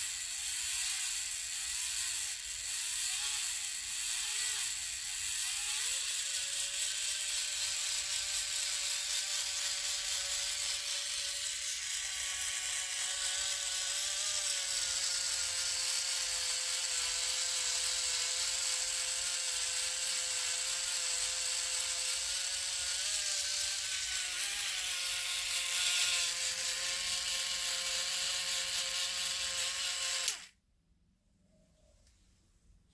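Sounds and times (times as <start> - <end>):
small electric motor whining: 0.0 - 30.6.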